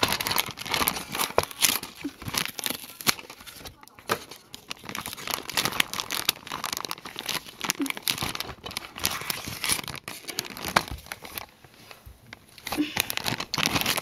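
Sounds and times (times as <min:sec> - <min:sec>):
packaging crinkling and tearing: 0:00.0 - 0:14.0.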